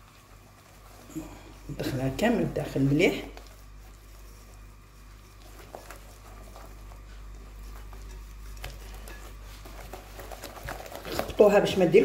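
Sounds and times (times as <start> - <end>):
whisk beating batter: 0.0 - 12.0.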